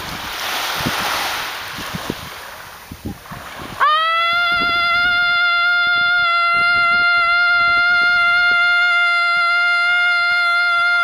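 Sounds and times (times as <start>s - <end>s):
surf washing on beach: 0.0s - 11.0s
wind on microphone: 0.0s - 11.0s.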